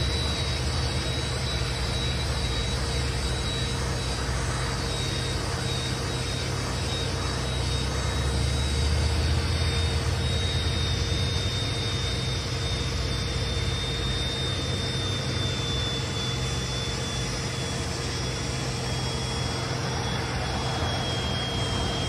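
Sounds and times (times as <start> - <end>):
cordless drill whining: 0.0 - 22.0.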